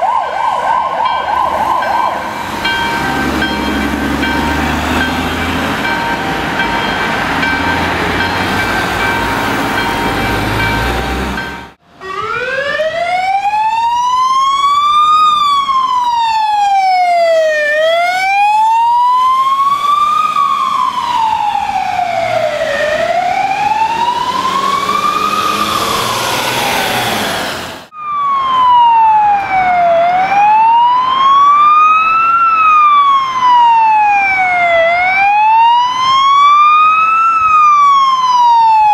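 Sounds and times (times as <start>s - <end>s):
ambulance wail siren: 0.0s - 38.9s
traffic noise: 0.0s - 38.9s.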